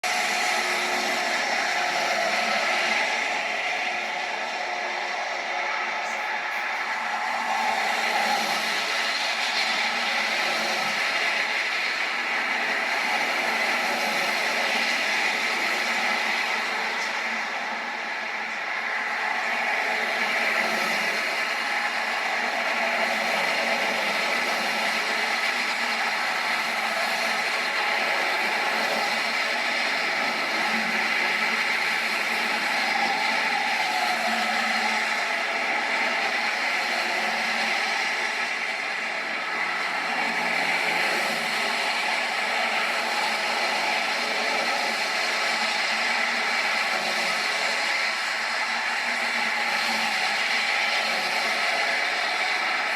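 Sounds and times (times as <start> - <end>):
jet engines rushing: 0.0 - 52.9.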